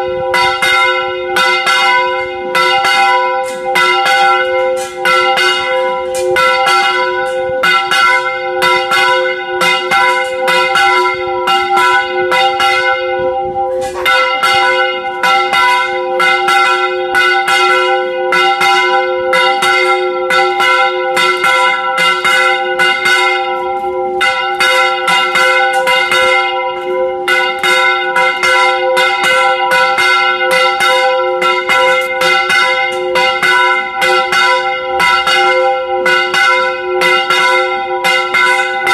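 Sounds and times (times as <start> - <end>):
church bells ringing rapidly: 0.0 - 38.9.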